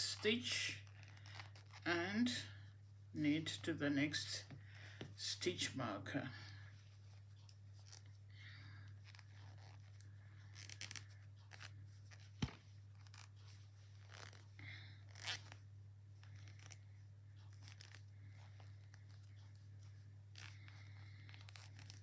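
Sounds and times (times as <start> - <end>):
steady low hum: 0.0 - 22.0
yarn rustling: 0.0 - 22.0.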